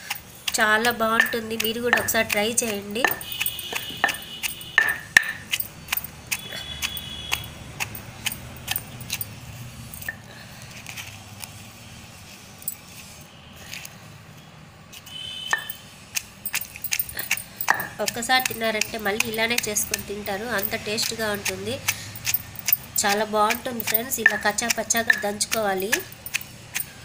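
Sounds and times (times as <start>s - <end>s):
pestle pounding in stone mortar: 0.0s - 10.3s, 15.5s - 27.0s.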